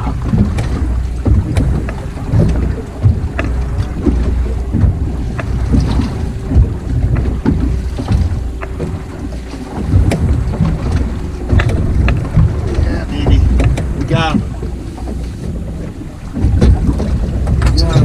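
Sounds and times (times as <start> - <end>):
steady low rumble: 0.0 - 18.0
wind buffeting microphone: 0.0 - 18.0.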